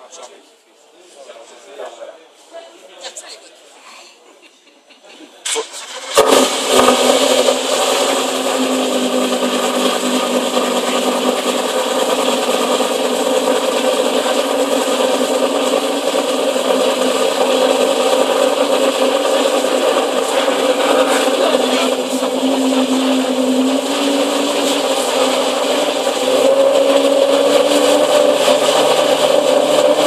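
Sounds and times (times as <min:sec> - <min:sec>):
car engine idling: 0:05.8 - 0:30.0.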